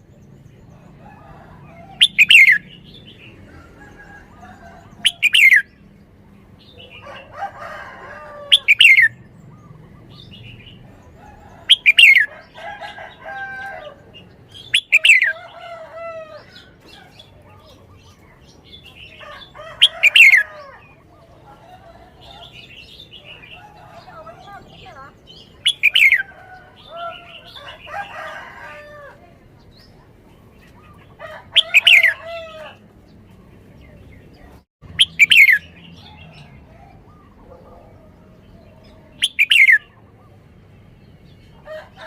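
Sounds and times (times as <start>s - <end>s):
bird singing downward phrases: 0.0s - 5.9s, 6.6s - 32.8s, 33.4s - 40.5s.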